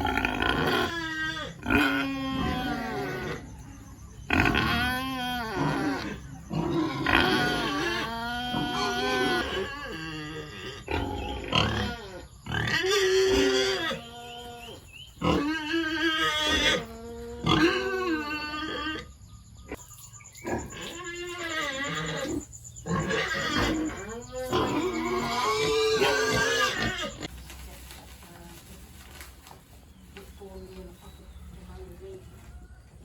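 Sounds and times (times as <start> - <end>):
pigs squealing: 0.0 - 3.6, 4.2 - 27.3.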